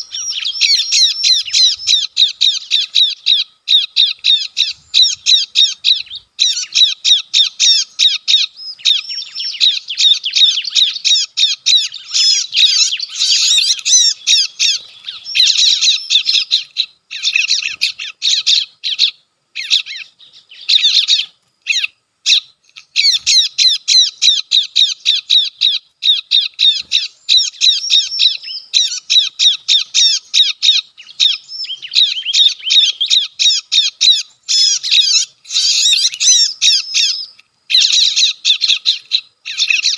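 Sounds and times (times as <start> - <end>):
recorded bird chattering calls: 0.0 - 39.9.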